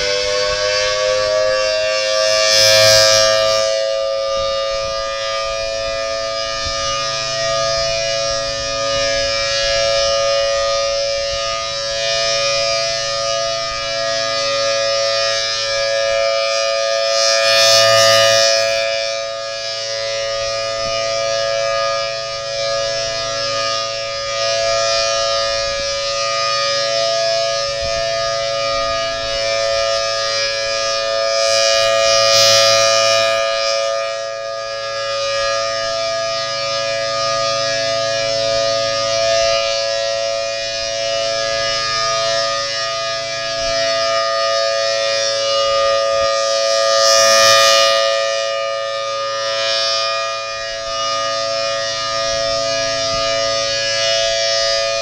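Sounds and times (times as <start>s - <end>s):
dual-tone warning siren: 0.0s - 55.0s.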